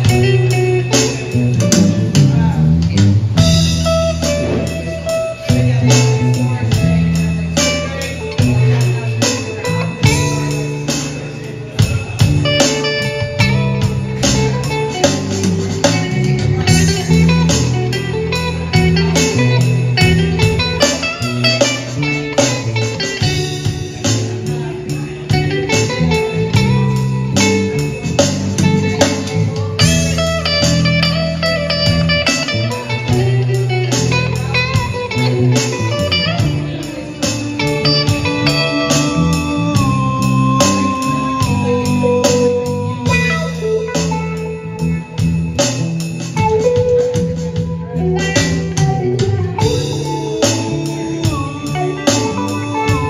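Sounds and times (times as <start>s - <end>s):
electric bass line: 0.0s - 53.0s
electric guitar blues-rock lines: 0.0s - 53.0s
steady drum beat: 0.0s - 53.0s.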